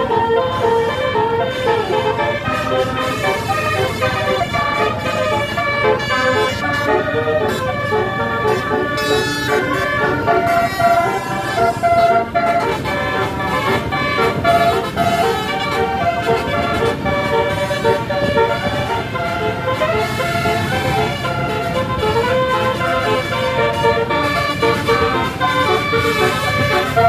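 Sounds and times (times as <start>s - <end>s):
low rumble of vehicle: 0.0s - 27.0s
multi-tone bus horn melody: 0.0s - 27.0s.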